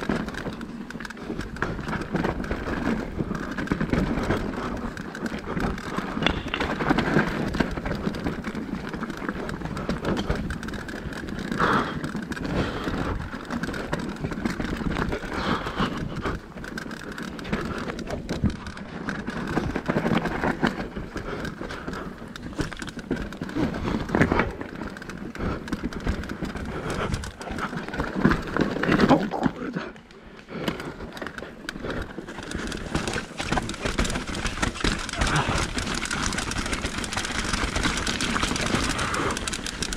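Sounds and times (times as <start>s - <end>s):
bike knocks and rattles: 0.0s - 39.9s
bike tyres rumbling over dirt: 0.0s - 39.9s.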